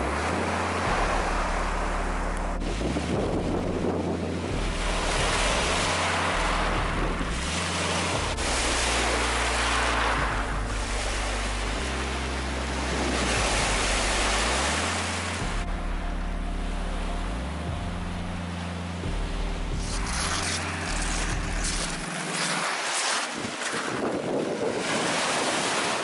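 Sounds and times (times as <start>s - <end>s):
low rumble: 0.0s - 22.2s
small waves washing on shore: 0.0s - 26.0s.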